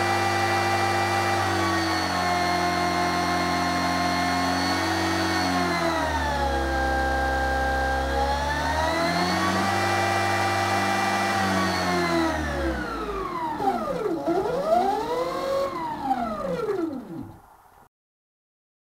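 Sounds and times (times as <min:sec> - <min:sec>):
electric motor whine: 0:00.0 - 0:17.4.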